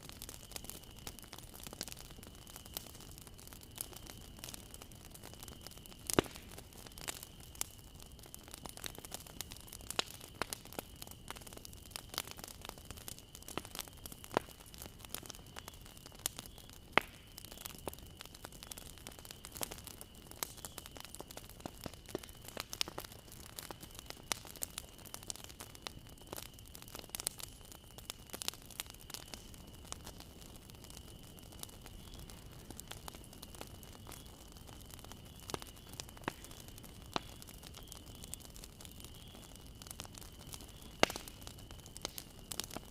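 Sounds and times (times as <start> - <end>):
bonfire crackling: 0.0 - 42.9.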